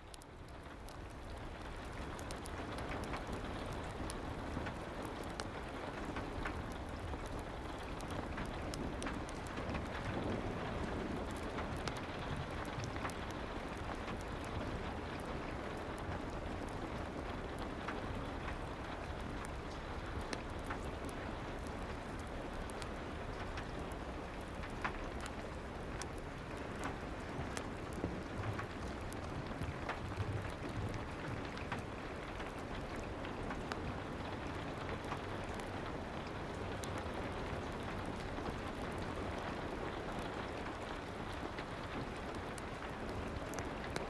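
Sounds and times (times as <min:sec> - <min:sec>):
crackling fireplace: 0:00.0 - 0:44.0
soft steady rain: 0:00.0 - 0:44.0.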